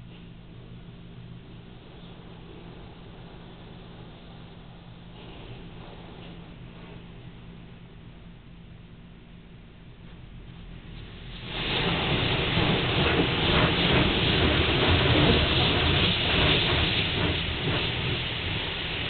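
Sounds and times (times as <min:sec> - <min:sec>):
car wash machinery hissing rush: 0:01.1 - 0:08.0, 0:10.5 - 0:19.0.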